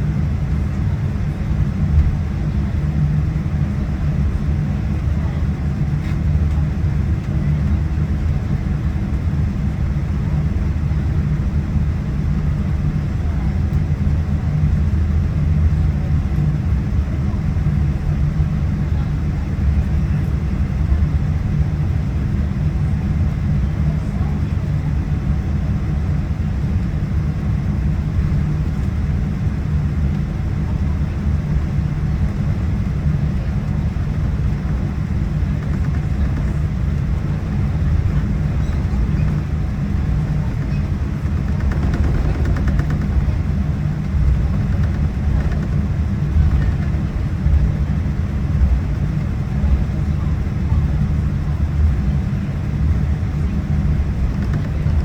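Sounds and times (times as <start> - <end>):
aircraft cabin low rumble: 0.0 - 55.0.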